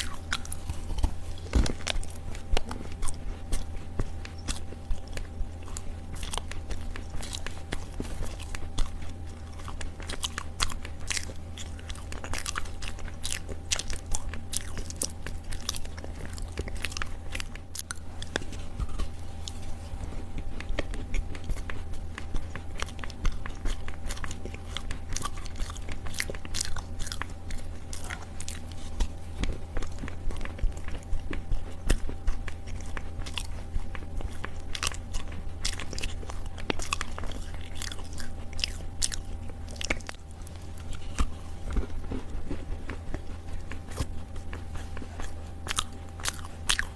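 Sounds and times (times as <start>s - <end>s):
chewing clay soil crunches: 0.0s - 46.9s
steady low hum: 0.0s - 46.9s.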